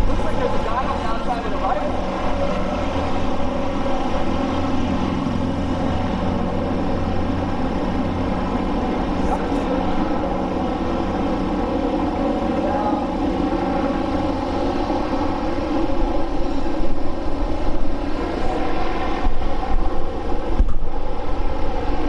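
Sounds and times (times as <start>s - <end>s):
machinery drone: 0.0s - 22.0s.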